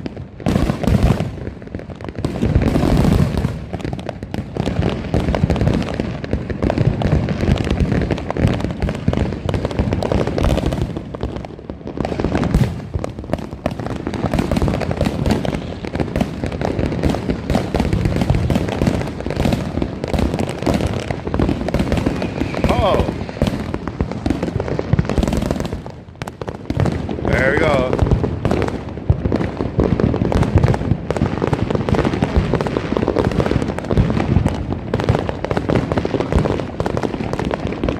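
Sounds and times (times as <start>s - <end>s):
fireworks and firecrackers popping: 0.0s - 37.9s.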